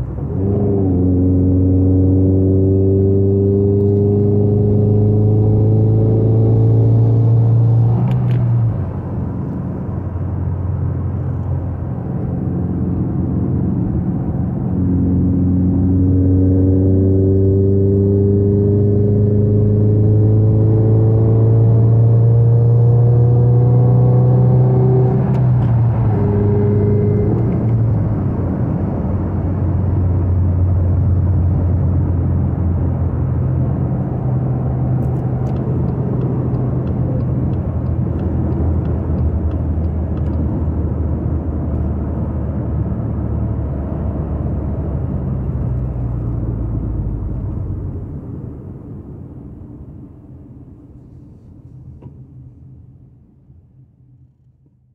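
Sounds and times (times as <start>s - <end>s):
car engine accelerating: 0.0s - 51.4s
road noise: 0.0s - 54.2s.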